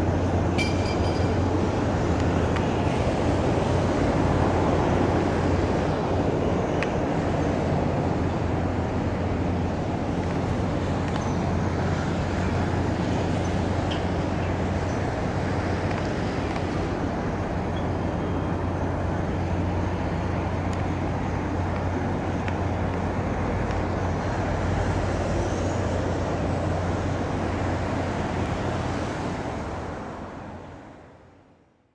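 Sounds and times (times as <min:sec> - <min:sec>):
constant rushing noise: 0:00.0 - 0:31.2
low engine drone: 0:00.0 - 0:31.4.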